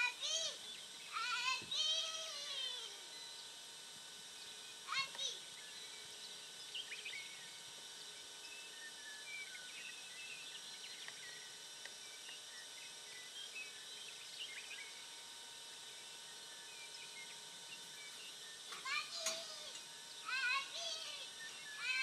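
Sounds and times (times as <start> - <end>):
faint constant tones: 0.0 - 22.0
small birds chirping: 0.0 - 22.0.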